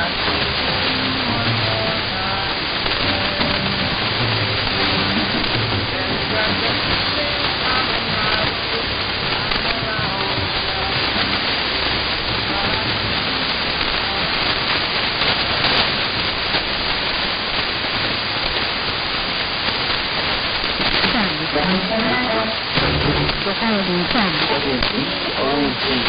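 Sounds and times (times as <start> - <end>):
faint radio program audio: 0.0 - 26.0
shortwave radio static: 0.0 - 26.0.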